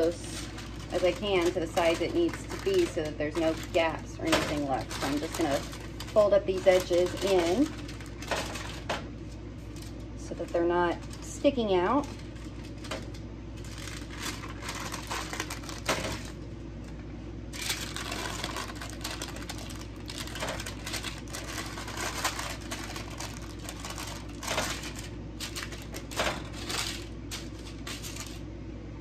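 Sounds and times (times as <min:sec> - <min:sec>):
parchment paper crinkling: 0:00.0 - 0:16.4, 0:17.5 - 0:28.5
steady low hum: 0:00.0 - 0:29.0.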